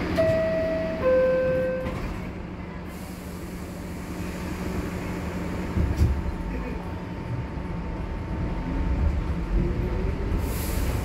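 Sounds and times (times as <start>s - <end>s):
subway car low hum: 0.0s - 11.0s.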